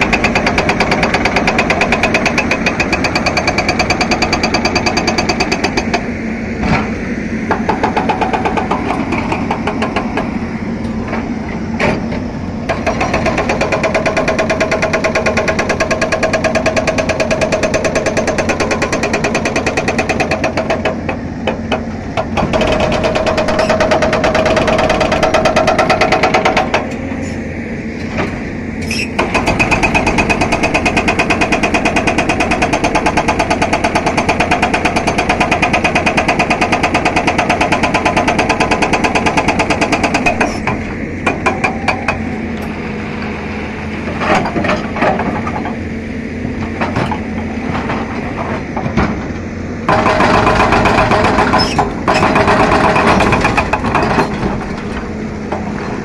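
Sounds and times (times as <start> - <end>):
hydraulic rock breaker hammering: 0.0 - 6.1, 6.7 - 10.4, 11.0 - 27.0, 28.1 - 42.8, 44.1 - 56.0
diesel engine running: 0.0 - 56.0.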